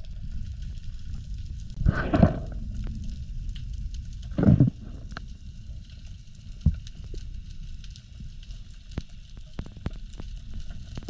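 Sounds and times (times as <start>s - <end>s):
faint crackling and ticks: 0.0s - 11.0s
underwater rumble: 0.0s - 11.0s.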